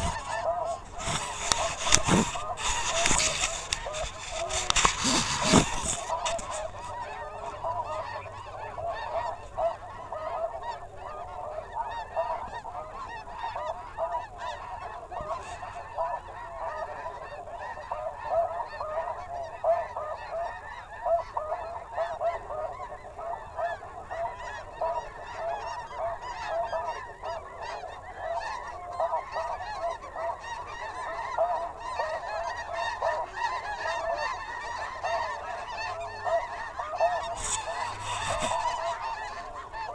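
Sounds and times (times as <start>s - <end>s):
snow geese calling: 0.0s - 39.9s.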